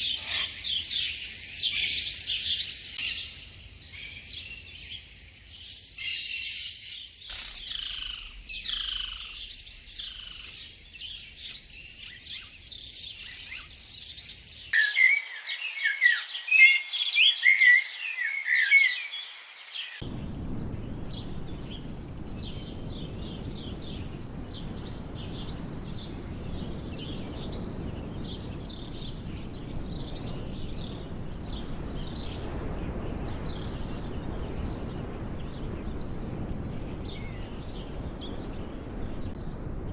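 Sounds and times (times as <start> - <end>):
wild birds singing: 0.0 - 39.9.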